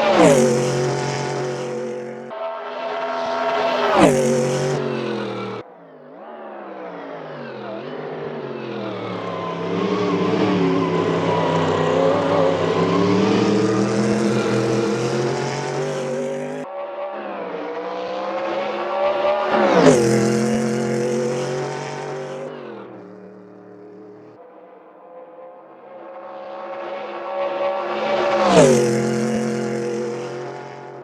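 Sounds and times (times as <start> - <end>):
race car engine passing by: 0.0 - 5.6, 6.5 - 24.4, 26.1 - 31.0.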